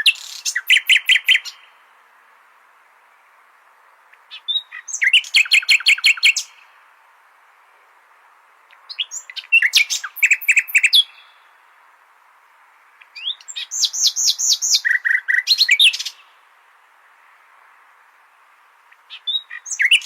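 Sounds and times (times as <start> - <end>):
nightingale singing: 0.0 - 2.0, 3.9 - 8.0, 8.6 - 11.9, 12.8 - 20.0
faint steady hiss: 0.0 - 20.0.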